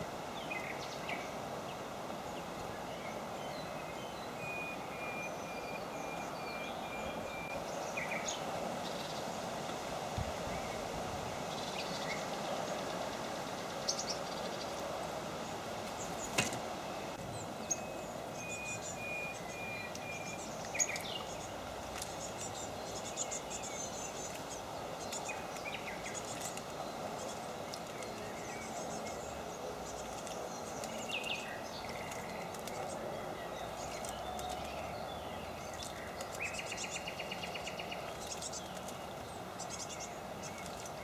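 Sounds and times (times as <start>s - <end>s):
songbirds chirping: 0.0s - 41.0s
steady background hiss: 0.0s - 41.0s.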